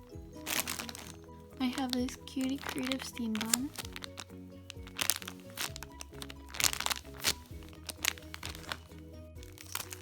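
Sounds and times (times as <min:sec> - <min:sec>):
foam toy rustling: 0:00.0 - 0:10.0
light melodic background music: 0:00.0 - 0:10.0.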